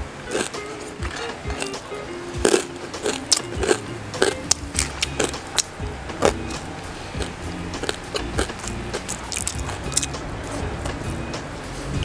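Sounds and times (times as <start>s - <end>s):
soft background music: 0.0s - 12.0s
crunchy chewing: 0.2s - 11.0s.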